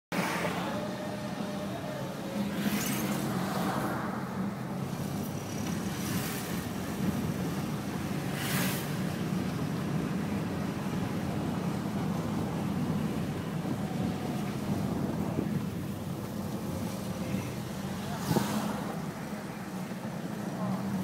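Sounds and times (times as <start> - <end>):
car engine and tyre rumble: 0.1 - 21.0.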